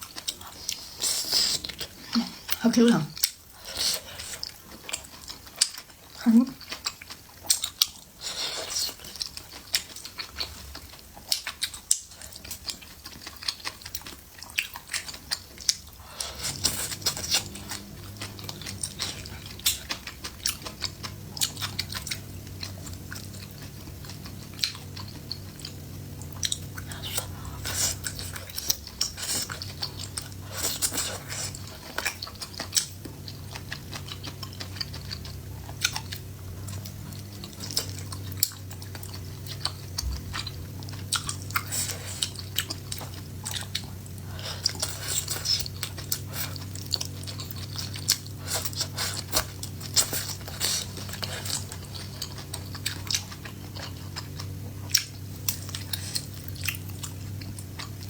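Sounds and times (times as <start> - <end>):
chewing and biting food: 0.0 - 58.0
low steady hum: 0.0 - 58.0.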